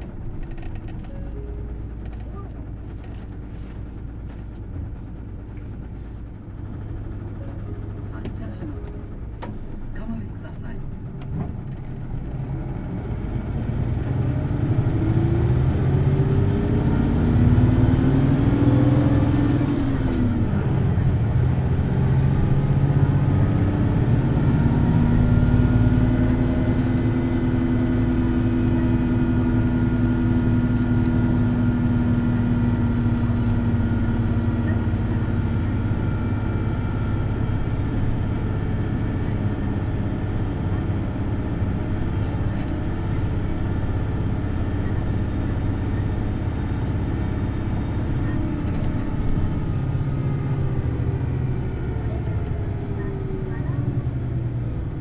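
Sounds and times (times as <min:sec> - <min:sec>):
bus diesel engine revving: 0:10.8 - 0:55.0.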